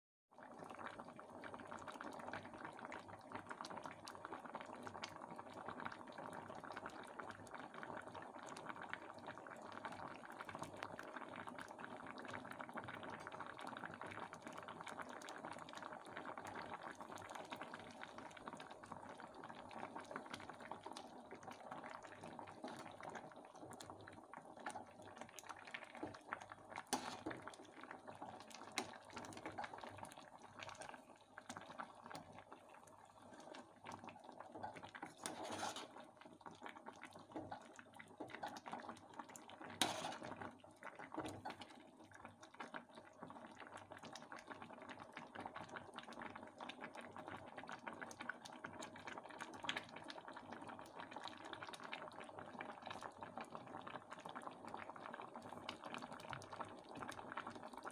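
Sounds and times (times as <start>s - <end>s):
stew simmering with popping bubbles: 0.3s - 57.9s.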